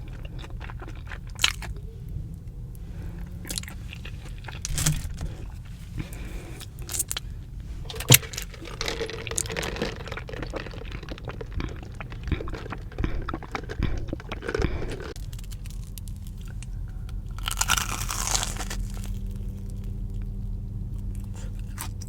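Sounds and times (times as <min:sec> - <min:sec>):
person crunchy eating: 0:00.0 - 0:01.9, 0:03.0 - 0:20.4, 0:21.0 - 0:22.0
crisp coating crackling: 0:00.0 - 0:22.0.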